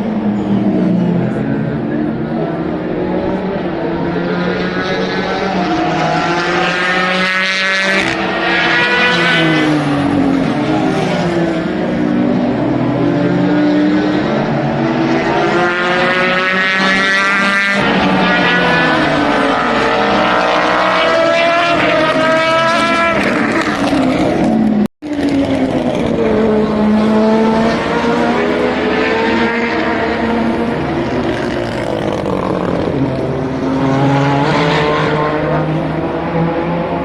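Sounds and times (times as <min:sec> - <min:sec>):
race car engines passing: 0:00.0 - 0:37.0.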